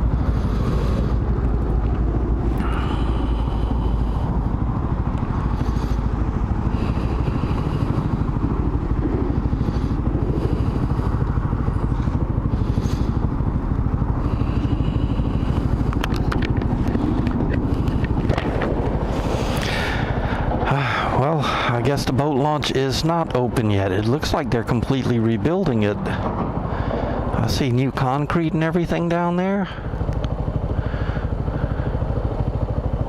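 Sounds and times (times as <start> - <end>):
motorcycle engine running: 0.0 - 33.0
road noise rushing: 0.0 - 33.0.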